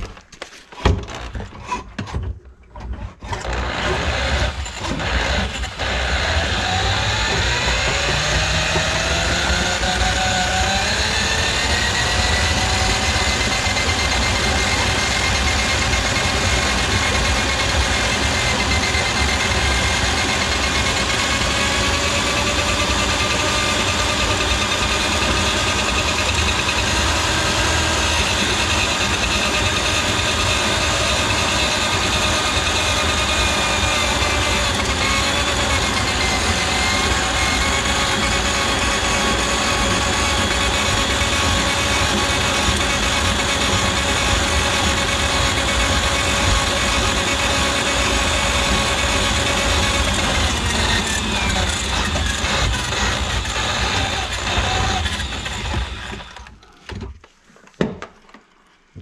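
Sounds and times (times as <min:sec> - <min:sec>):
electric drain auger running: 0:00.8 - 0:01.6, 0:03.2 - 0:56.9.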